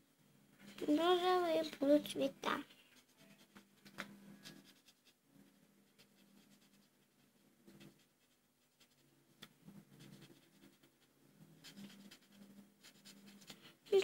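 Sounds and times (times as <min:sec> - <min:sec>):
marker scratching on paper: 0:02.6 - 0:14.0.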